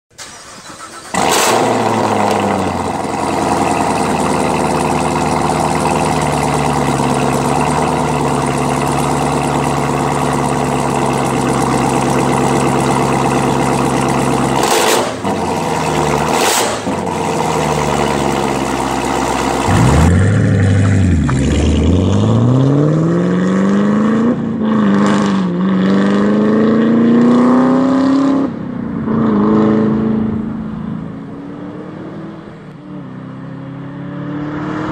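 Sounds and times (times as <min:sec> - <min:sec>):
car engine idling and revving: 0:00.1 - 0:34.9
car accelerating hard: 0:00.2 - 0:34.9.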